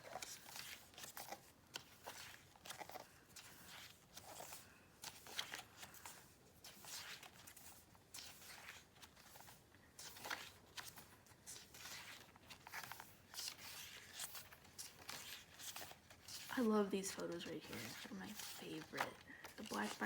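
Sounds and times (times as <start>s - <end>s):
paper pages turning: 0.0s - 20.0s.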